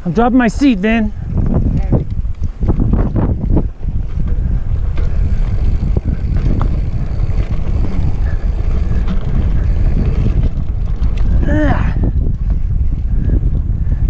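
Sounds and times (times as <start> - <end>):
wind buffeting microphone: 0.0 - 14.0
bike rolling over rock: 1.3 - 13.8.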